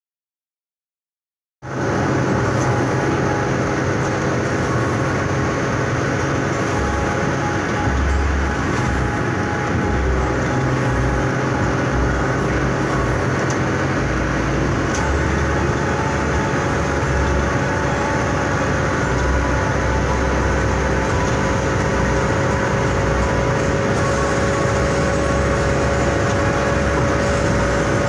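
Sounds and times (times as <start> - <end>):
car engine at high revs: 1.6 - 28.0
road and wind noise: 1.6 - 28.0.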